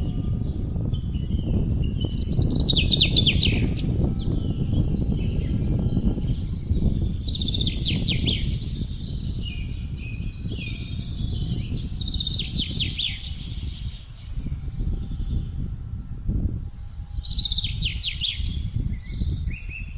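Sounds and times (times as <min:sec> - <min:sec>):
songbirds singing: 0:00.0 - 0:19.9
wind rushing: 0:00.0 - 0:19.9.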